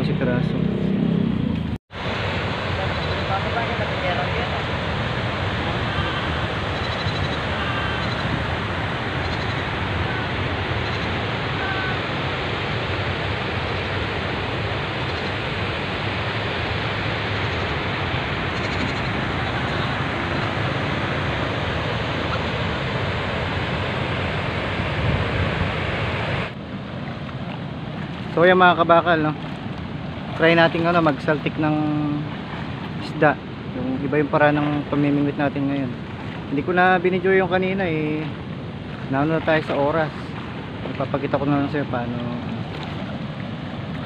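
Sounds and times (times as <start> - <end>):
water rushing through spillway: 1.9 - 44.0.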